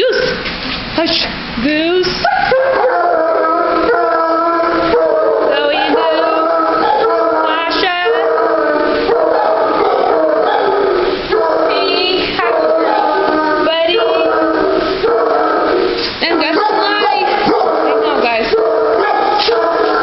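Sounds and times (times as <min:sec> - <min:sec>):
dogs howling: 0:02.2 - 0:20.0
dogs yipping and whining: 0:02.2 - 0:20.0.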